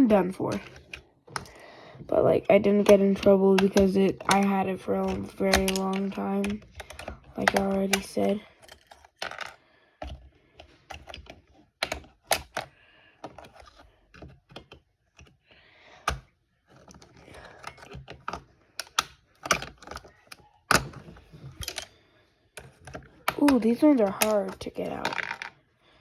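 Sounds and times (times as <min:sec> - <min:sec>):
keyboard plastic clicks: 0:02.4 - 0:15.4, 0:16.1 - 0:21.9, 0:22.6 - 0:25.5.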